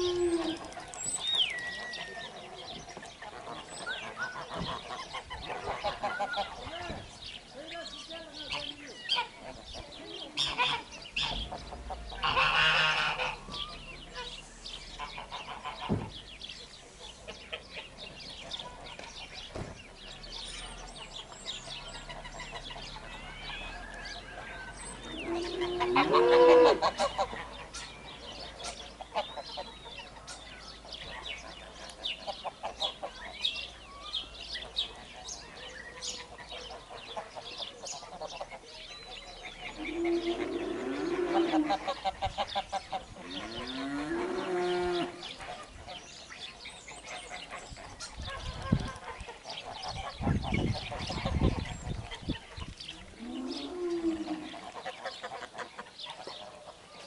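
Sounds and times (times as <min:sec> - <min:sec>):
geese honking: 0:00.0 - 0:07.0, 0:08.2 - 0:19.1, 0:20.3 - 0:33.7, 0:39.4 - 0:56.9.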